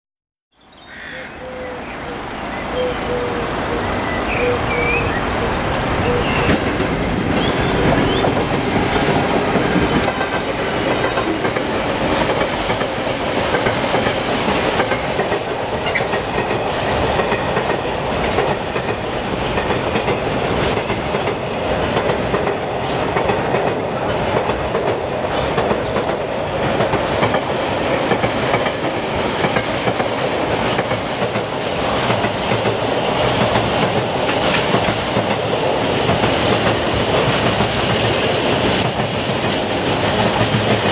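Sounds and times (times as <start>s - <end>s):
freight train wheels clattering: 5.5s - 40.9s.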